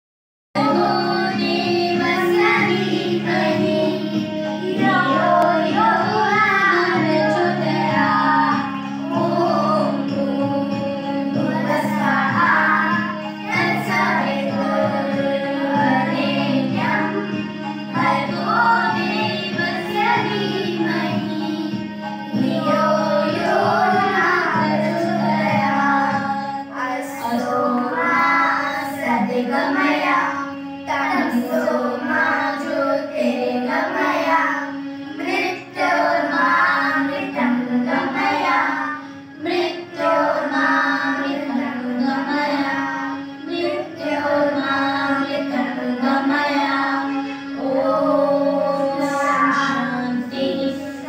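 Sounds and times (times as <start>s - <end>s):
girl singing into a microphone: 0.6s - 51.0s
instrumental backing music: 0.6s - 51.0s.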